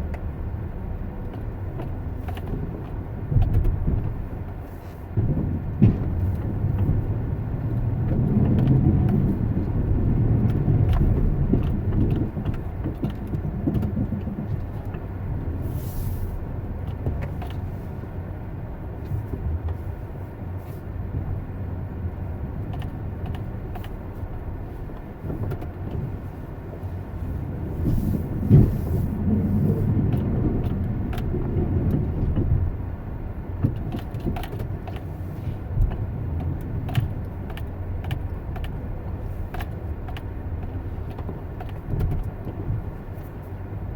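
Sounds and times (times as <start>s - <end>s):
vehicle road rumble: 0.0s - 43.9s.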